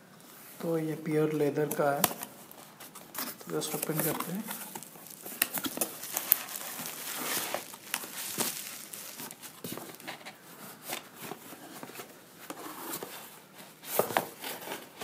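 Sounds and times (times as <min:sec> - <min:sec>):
cardboard rustling: 0:01.3 - 0:15.0
bubble wrap crinkling: 0:01.4 - 0:15.0.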